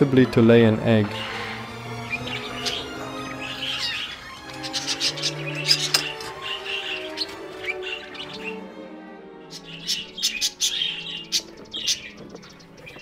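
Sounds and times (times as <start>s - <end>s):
music with long low notes: 0.0s - 13.0s
budgerigars chirping: 0.7s - 8.7s, 9.4s - 13.0s.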